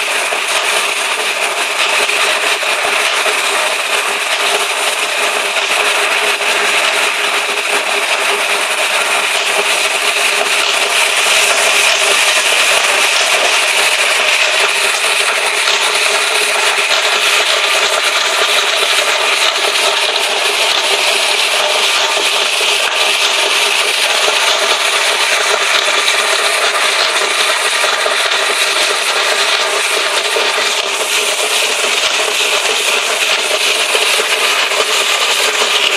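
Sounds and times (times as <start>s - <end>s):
concrete floor grinder running: 0.0s - 35.9s.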